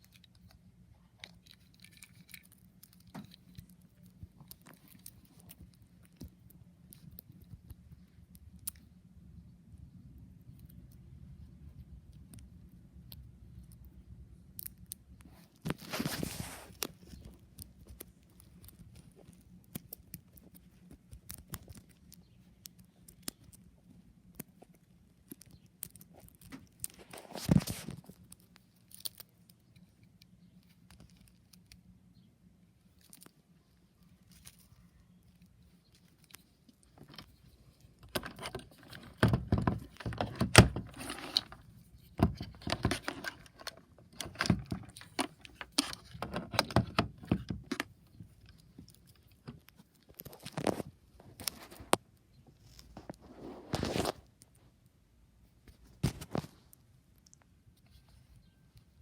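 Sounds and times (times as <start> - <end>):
faint low hum: 0.0 - 59.0.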